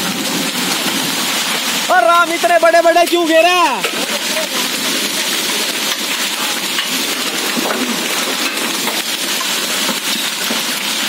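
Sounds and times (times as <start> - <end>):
hail ticking on concrete: 0.0 - 11.0
rain hissing: 0.0 - 11.0.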